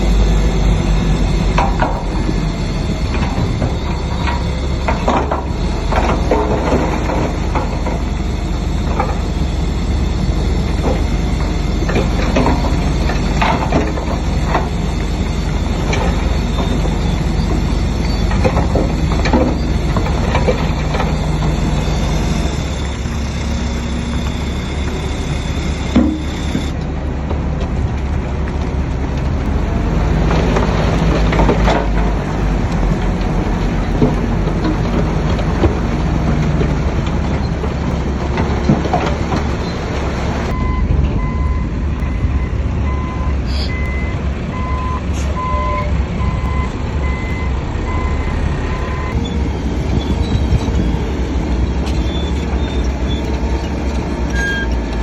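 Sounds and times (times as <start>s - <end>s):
reversing alarm beeping: 0.0s - 26.8s, 29.4s - 55.0s
heavy diesel engines running: 0.0s - 55.0s.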